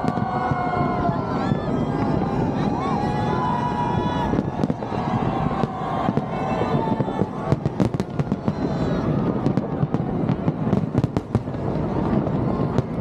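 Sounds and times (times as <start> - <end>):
crowd voices: 0.0 - 13.0
fireworks popping and banging: 0.0 - 13.0.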